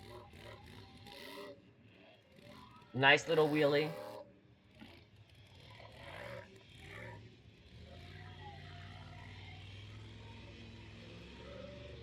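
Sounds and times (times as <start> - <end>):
muffled truck engine drone: 0.0 - 12.0.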